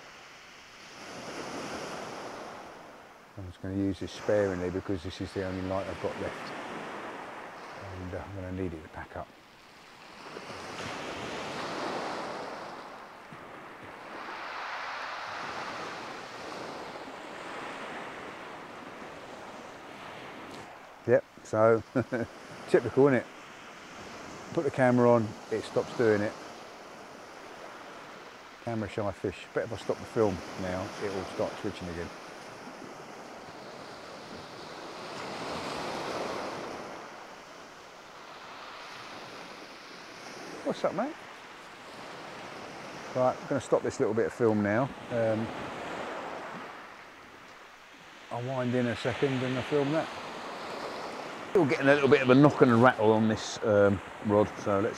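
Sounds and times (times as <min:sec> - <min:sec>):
waves breaking on beach: 0:00.0 - 0:54.9.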